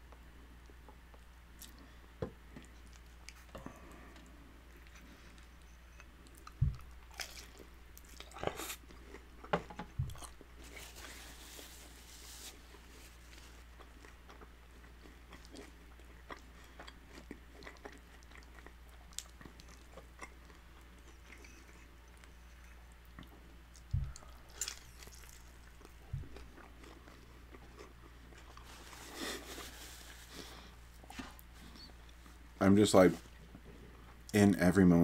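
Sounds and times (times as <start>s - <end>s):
chewing crunchy tacos: 0.1s - 32.3s.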